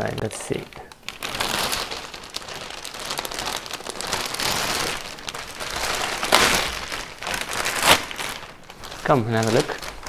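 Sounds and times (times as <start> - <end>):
plastic wrap and cardboard rustling: 0.0 - 10.0.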